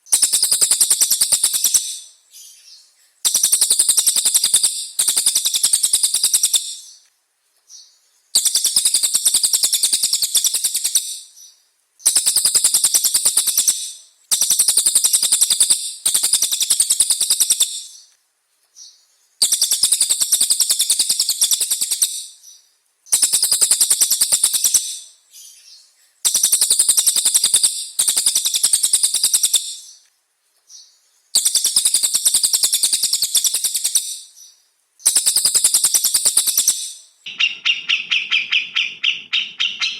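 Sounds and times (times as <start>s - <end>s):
songbird singing rattling trills: 0.0s - 7.0s, 7.7s - 18.1s, 18.8s - 30.0s, 30.7s - 39.9s.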